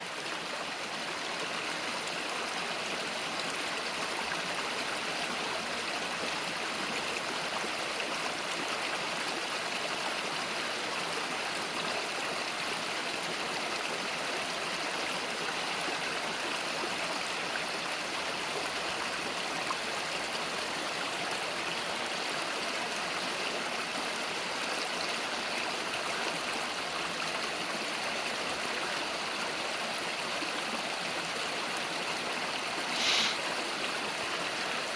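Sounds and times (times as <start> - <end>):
river flowing over rocks: 0.0 - 34.9.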